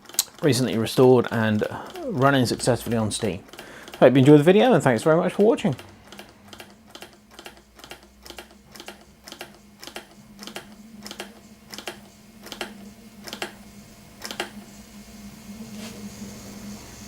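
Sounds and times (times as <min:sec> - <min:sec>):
model steam engine chuffing: 0:00.0 - 0:17.0.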